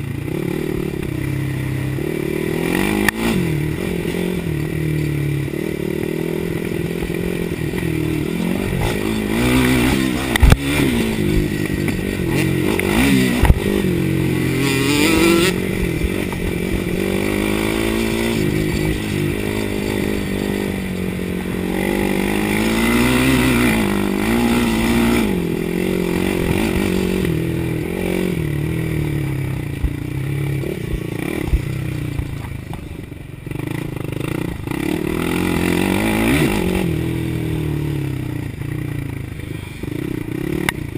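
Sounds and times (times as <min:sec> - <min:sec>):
quad engine revving: 0:00.0 - 0:32.8, 0:33.5 - 0:40.9.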